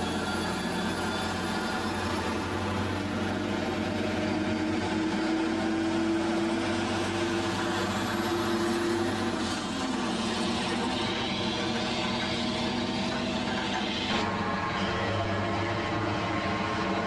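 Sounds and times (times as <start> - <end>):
heavy truck diesel engine: 0.0 - 17.0.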